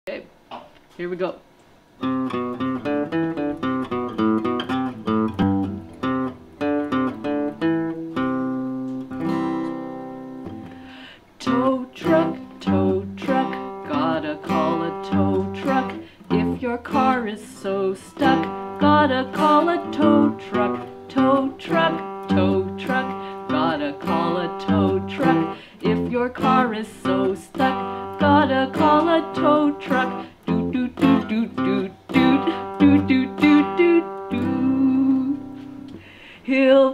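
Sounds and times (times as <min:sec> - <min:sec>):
acoustic guitar picking: 0:02.0 - 0:36.2.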